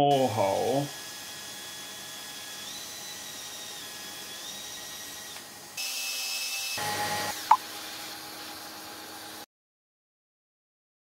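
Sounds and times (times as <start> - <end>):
cordless drill whining: 0.4 - 9.4.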